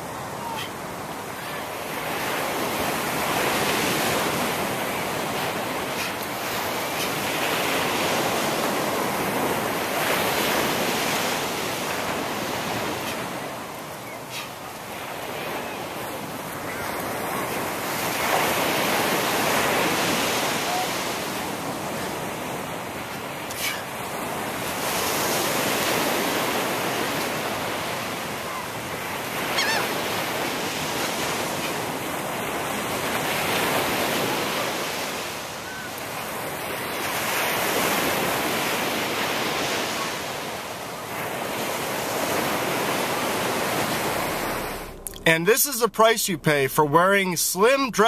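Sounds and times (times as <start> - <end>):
ocean surf breaking: 0.0 - 48.0.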